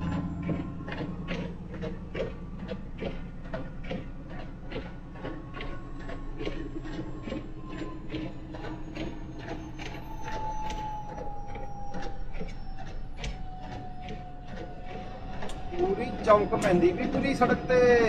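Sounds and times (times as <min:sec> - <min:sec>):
diesel engine rumbling: 0:00.0 - 0:18.0
regular ticking: 0:00.0 - 0:18.0.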